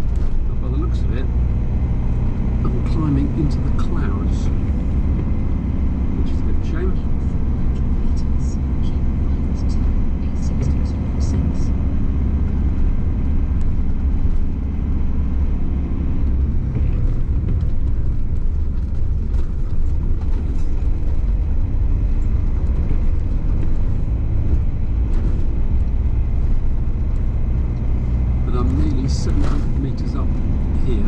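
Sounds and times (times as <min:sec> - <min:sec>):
van engine and tyre rumble: 0:00.0 - 0:31.0.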